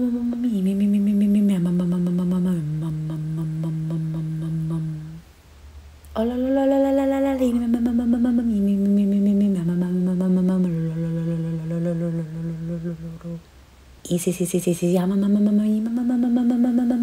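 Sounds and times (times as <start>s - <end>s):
person humming held notes: 0.0s - 5.3s, 6.1s - 13.5s, 14.1s - 17.0s.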